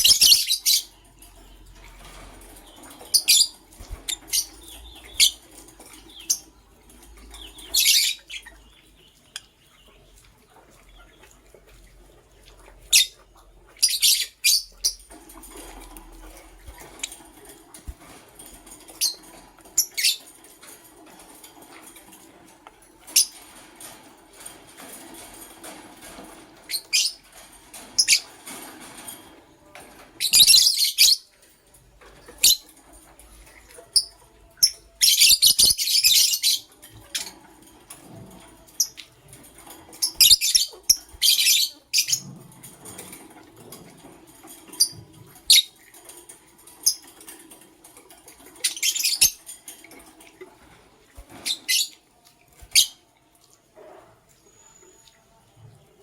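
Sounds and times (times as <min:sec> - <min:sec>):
lovebirds chirping and chattering: 0:00.0 - 0:56.0.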